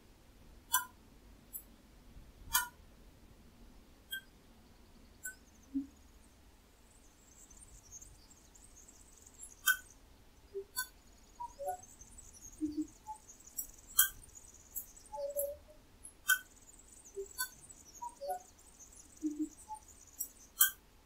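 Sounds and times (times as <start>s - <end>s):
faint high hiss: 0.0s - 21.0s.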